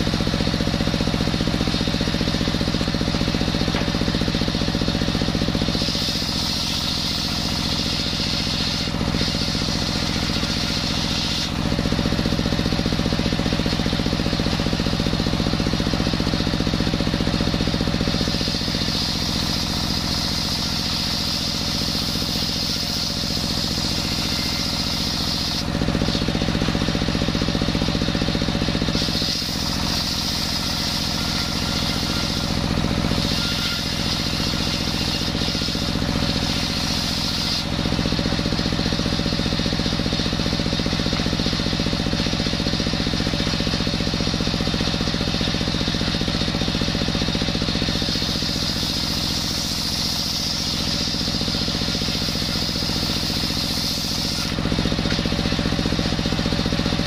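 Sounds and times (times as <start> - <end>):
circular saw cutting wood: 0.0 - 57.0
diesel engine running: 0.0 - 57.0.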